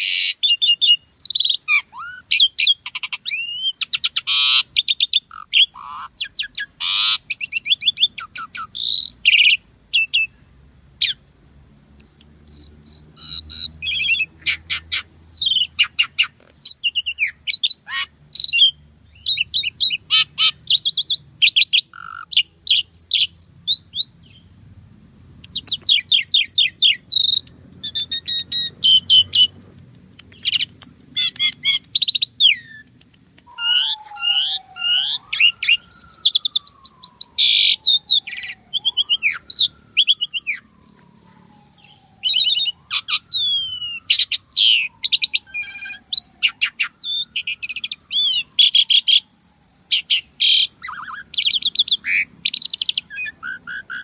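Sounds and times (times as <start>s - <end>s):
starling singing whistles and trills: 0.0s - 10.4s, 11.0s - 11.2s, 12.0s - 24.5s, 25.4s - 54.0s.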